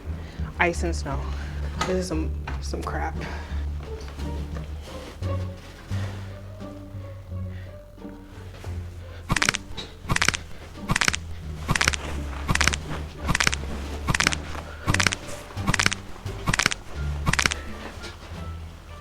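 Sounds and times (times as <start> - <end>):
music with steady bass line: 0.0 - 19.0.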